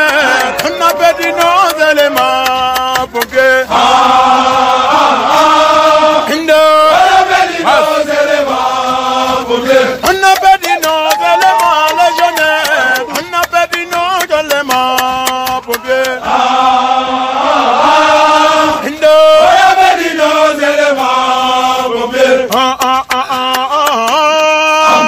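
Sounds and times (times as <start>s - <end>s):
men chanting in unison: 0.0s - 25.0s.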